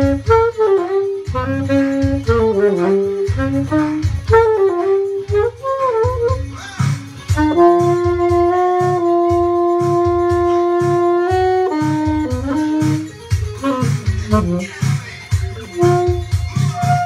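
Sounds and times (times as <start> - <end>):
backing track with steady beat: 0.0 - 17.0
saxophone melody: 0.0 - 17.0.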